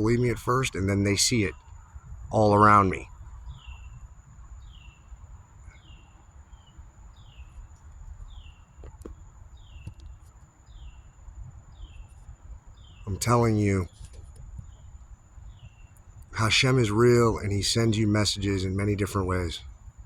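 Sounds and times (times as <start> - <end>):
bird calling: 0.0 - 19.7
low outdoor rumble: 0.0 - 20.0.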